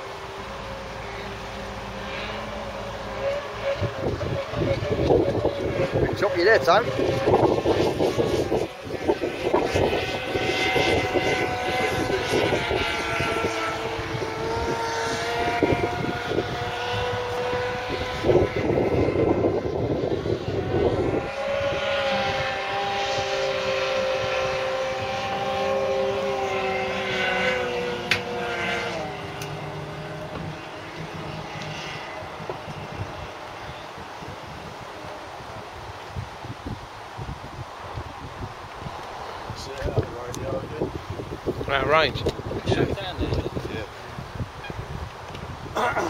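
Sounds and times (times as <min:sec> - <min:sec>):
model powerboat engines at speed: 0:00.0 - 0:46.0
water rushing: 0:00.0 - 0:46.0.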